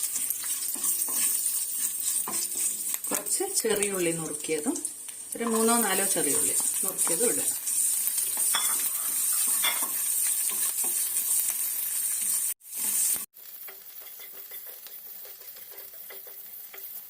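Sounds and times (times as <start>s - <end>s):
spoon stirring in pan: 0.0s - 3.9s, 5.4s - 17.0s
food sizzling in hot oil: 0.0s - 17.0s.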